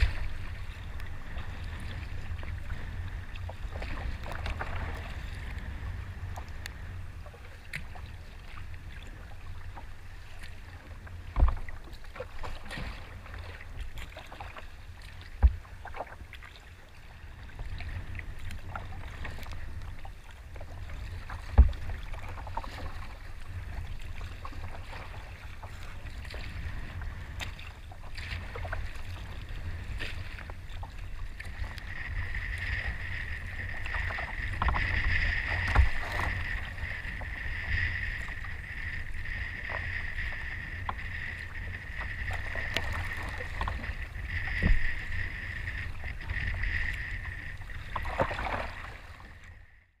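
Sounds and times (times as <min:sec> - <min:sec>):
wind buffeting microphone: 0:00.0 - 0:15.8, 0:17.1 - 0:49.5
waves splashing: 0:00.0 - 0:49.8.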